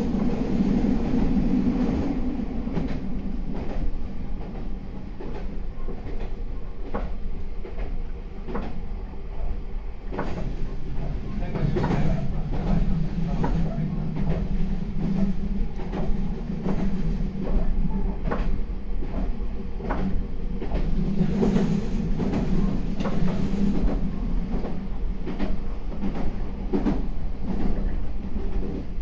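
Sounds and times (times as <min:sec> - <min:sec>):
electric train rumble and hum: 0:00.0 - 0:29.0.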